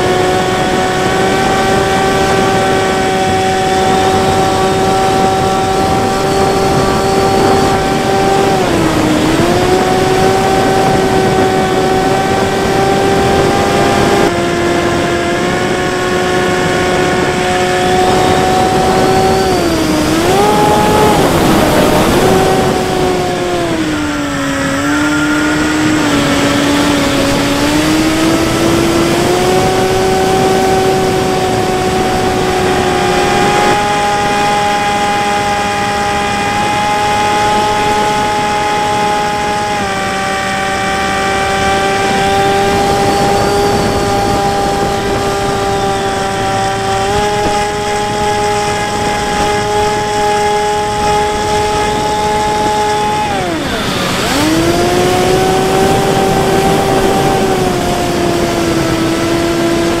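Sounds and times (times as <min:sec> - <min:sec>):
electric motor whine: 0:00.0 - 1:00.0.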